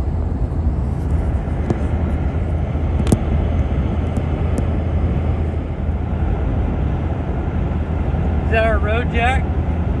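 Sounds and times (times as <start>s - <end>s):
road and engine noise: 0.0s - 10.0s.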